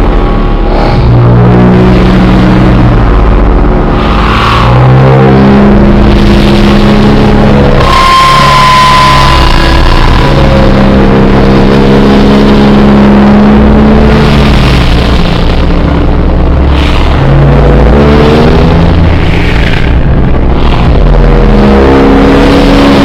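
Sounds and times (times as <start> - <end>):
droning low tones: 0.0 - 23.0
harsh distorted noise: 0.0 - 23.0.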